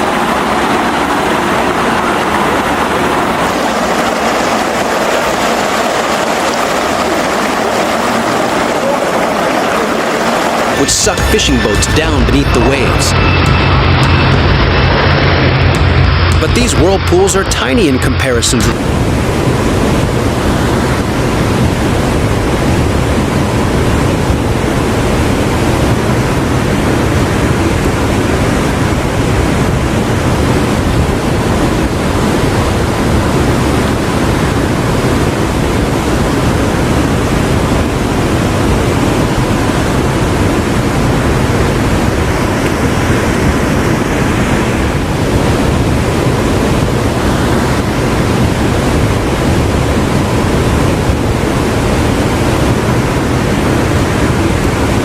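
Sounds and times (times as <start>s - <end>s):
churning water rushing: 0.0s - 55.0s.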